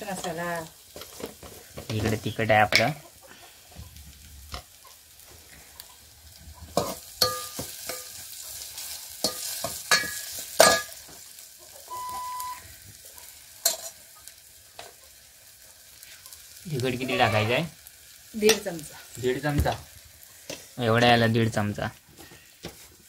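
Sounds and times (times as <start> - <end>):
spices sizzling in hot oil: 0.0 - 23.0.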